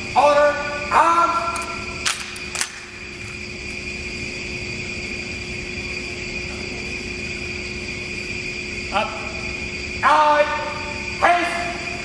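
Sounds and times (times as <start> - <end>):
room hum: 0.0 - 12.0
thin high-pitched whine: 0.0 - 12.0.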